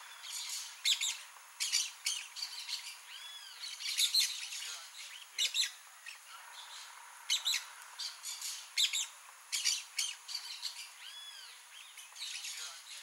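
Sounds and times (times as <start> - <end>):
parakeets rasping calls: 0.0 - 13.0.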